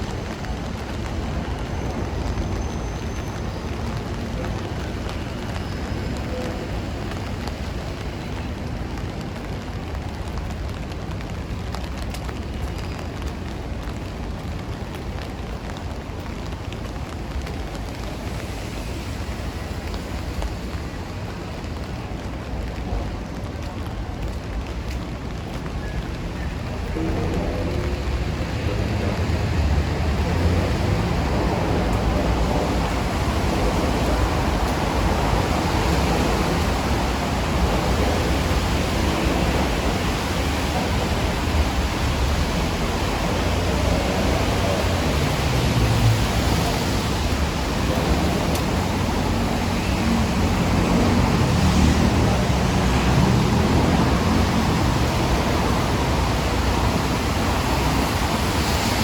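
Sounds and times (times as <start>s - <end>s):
city traffic rumble: 0.0s - 59.0s
steady rain hiss: 0.0s - 59.0s.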